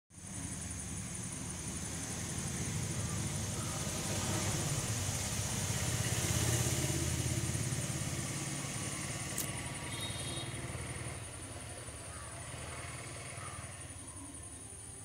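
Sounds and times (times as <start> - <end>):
high insect trill: 0.1 - 15.0
vehicle engine droning: 0.2 - 15.0.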